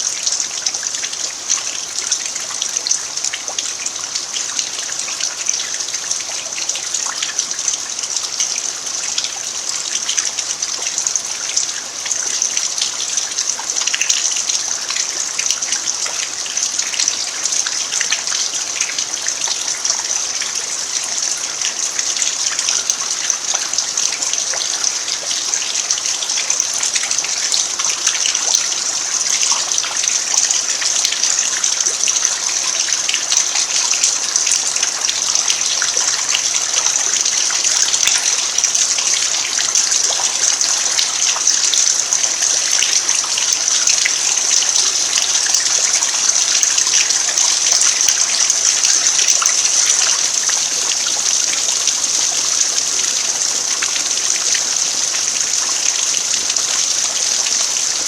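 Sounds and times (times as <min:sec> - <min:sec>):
rain falling on dirt: 0:00.0 - 0:58.0.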